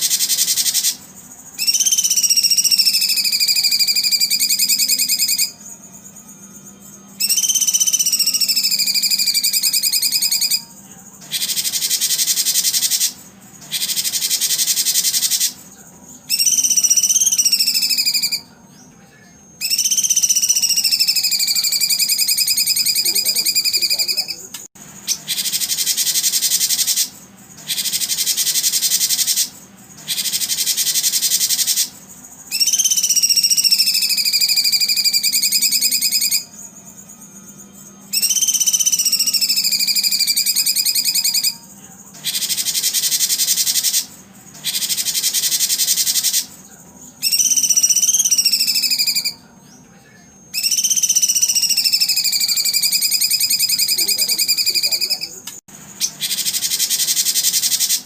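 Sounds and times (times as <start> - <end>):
songbird whistled notes: 0.0 - 19.0, 19.6 - 55.4, 56.0 - 58.0
songbird buzzy trills: 0.0 - 58.0.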